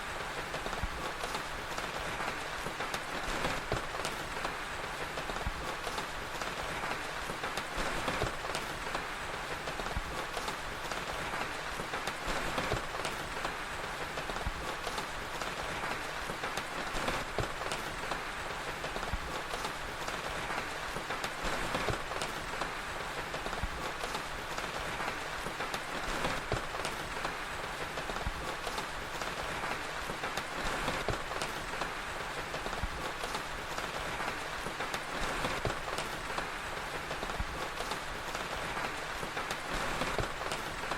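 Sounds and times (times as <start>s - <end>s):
fire crackling: 0.0s - 40.9s
rain hissing: 0.0s - 40.9s.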